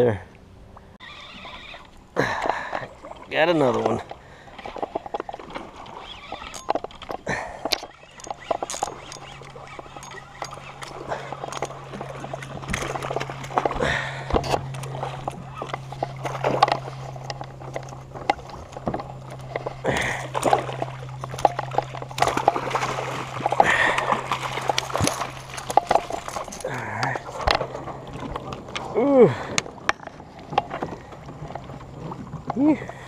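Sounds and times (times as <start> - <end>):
fish thrashing and splashing water: 1.1 - 33.0.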